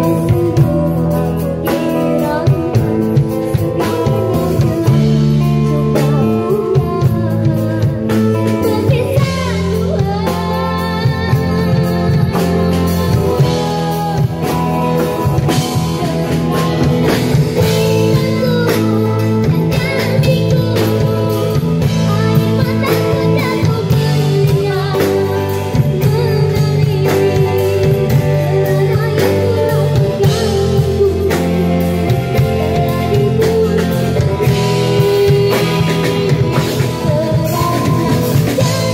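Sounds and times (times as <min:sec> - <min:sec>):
drum kit: 0:00.0 - 0:38.9
girl singing into a microphone: 0:00.0 - 0:38.9.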